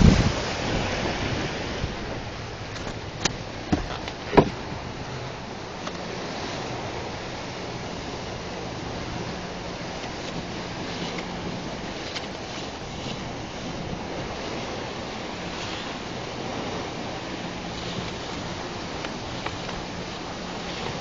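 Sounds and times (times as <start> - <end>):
rush of wind and water: 0.0 - 21.0.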